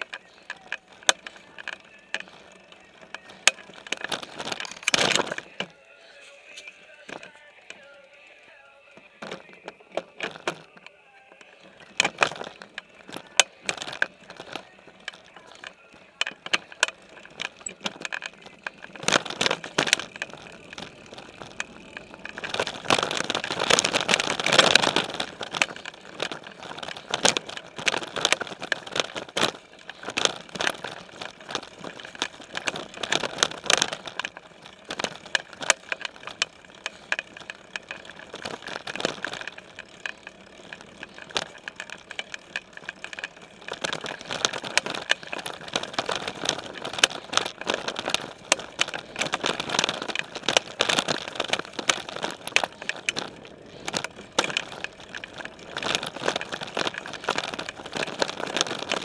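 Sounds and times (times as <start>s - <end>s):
bike clicking and rattling: 0.0s - 59.0s.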